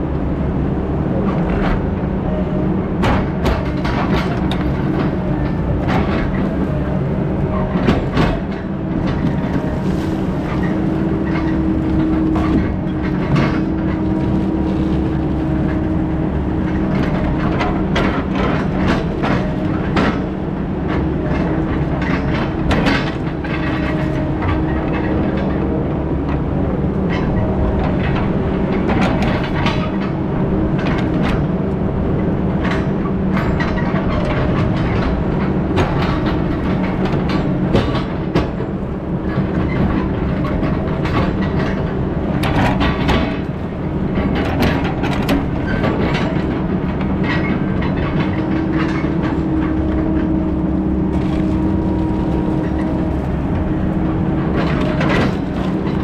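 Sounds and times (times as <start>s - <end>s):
heavy diesel machinery running: 0.0s - 56.0s
clanks and rattles: 3.0s - 6.8s, 7.4s - 26.5s, 27.1s - 56.0s.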